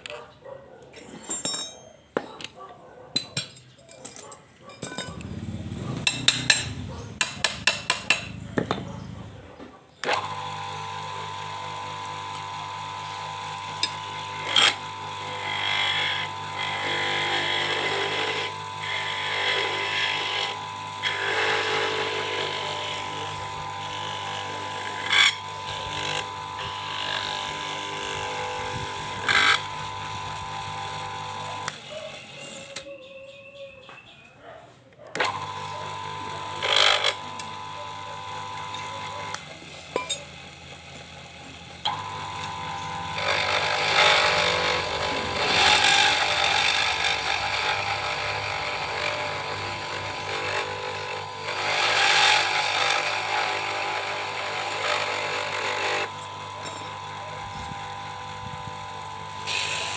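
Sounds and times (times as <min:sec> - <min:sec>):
lathe motor humming: 0:05.1 - 0:32.4, 0:35.2 - 0:59.9.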